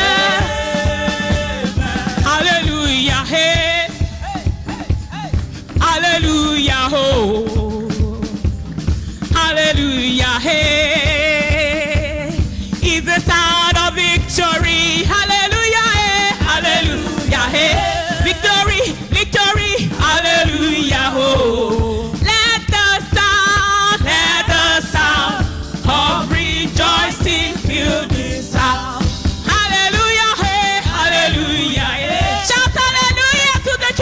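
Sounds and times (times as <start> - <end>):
woman singing with vibrato: 0.0 - 8.4, 9.2 - 34.0
band with steady drum beat: 0.0 - 34.0.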